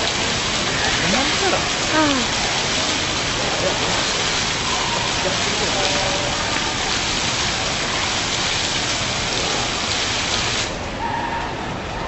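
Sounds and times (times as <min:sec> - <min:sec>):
water falling and splashing: 0:00.0 - 0:11.0.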